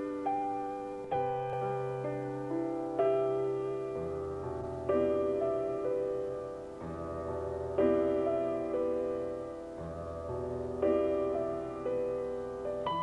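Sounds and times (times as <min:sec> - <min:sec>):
gentle piano chords: 0:00.0 - 0:13.0.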